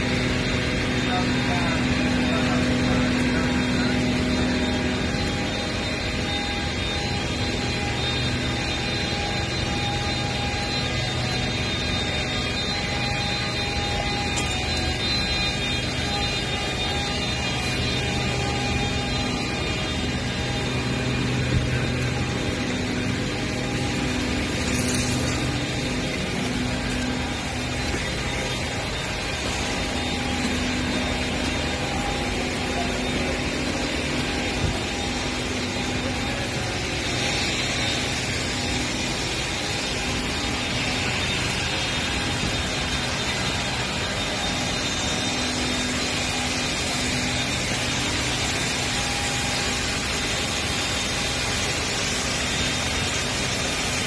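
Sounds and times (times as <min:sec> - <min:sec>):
low hum: 0:00.0 - 0:43.9
industrial plant roar: 0:00.0 - 0:54.0.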